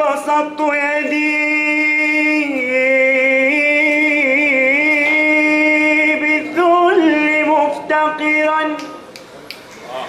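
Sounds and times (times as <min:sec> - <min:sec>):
man singing long melismatic note: 0:00.0 - 0:09.0.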